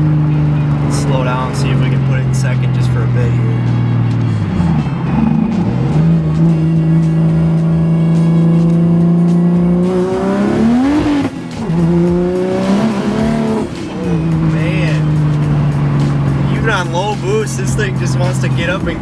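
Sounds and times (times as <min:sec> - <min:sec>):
turbo car engine revving: 0:00.0 - 0:19.0.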